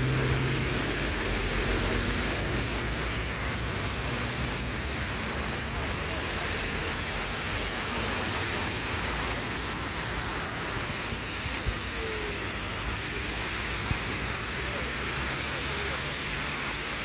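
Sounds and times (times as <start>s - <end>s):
road traffic: 0.0s - 17.0s
wind and rain on microphone: 0.0s - 17.0s.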